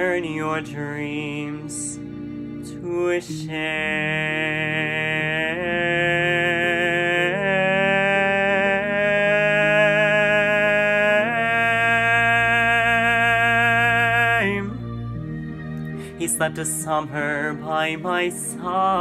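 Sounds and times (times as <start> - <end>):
young man singing with vibrato: 0.0 - 2.0, 2.7 - 14.9, 16.0 - 19.0.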